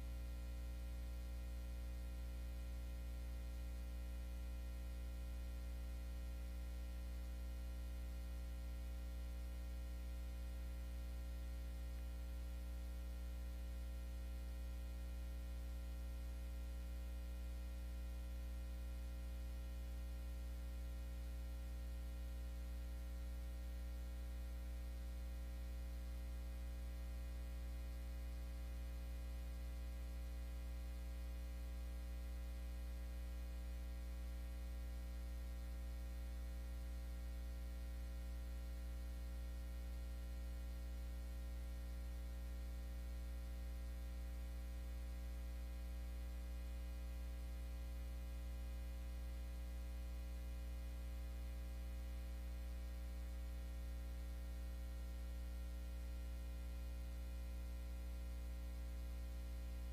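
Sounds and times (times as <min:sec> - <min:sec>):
electrical hum with buzzing overtones: 0:00.0 - 0:59.9.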